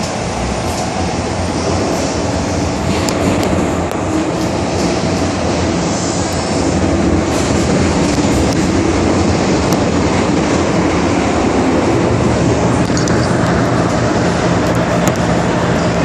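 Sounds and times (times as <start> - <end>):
metro train rumbling on rails: 0.0 - 16.0.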